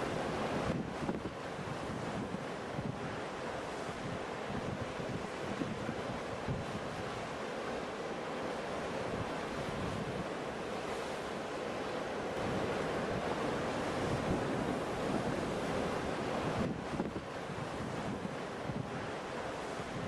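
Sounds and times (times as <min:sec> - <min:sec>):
ocean waves rushing: 0:00.0 - 0:20.0.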